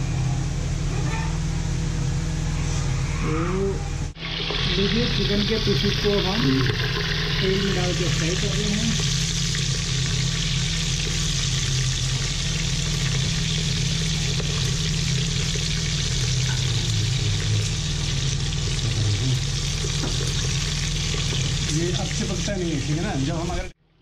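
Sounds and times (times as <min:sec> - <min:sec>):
steady low hum: 0:00.0 - 0:24.0
chicken sizzling in hot oil: 0:04.2 - 0:23.6.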